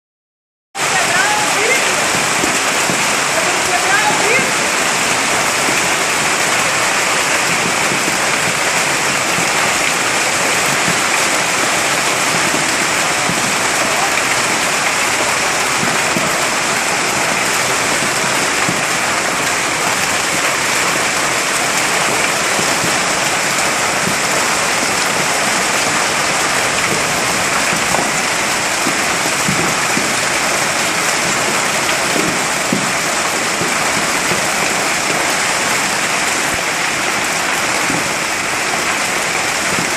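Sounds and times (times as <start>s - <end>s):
hail and rain pelting: 0.8s - 39.9s.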